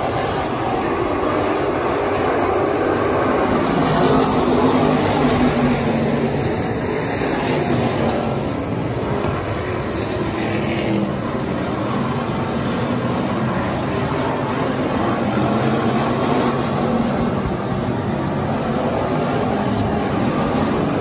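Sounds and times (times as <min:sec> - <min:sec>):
race car engines running hard: 0:00.0 - 0:21.0.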